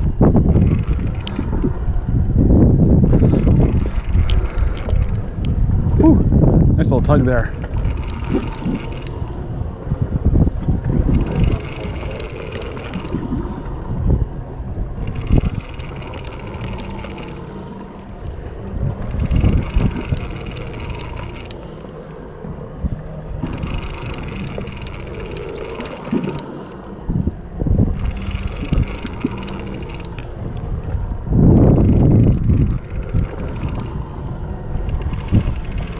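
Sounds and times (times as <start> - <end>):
faint boat engine hum: 0.0 - 35.9
wind buffeting microphone: 0.0 - 35.9.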